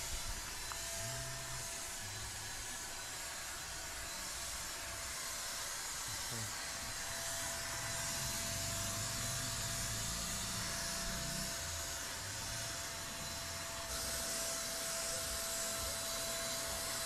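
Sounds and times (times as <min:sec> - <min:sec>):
electric paint spray gun hissing: 0:00.0 - 0:17.0.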